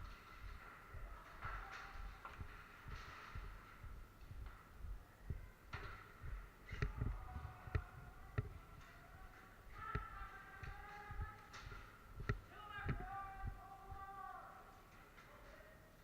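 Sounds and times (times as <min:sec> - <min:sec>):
low thumps: 0:00.0 - 0:14.2.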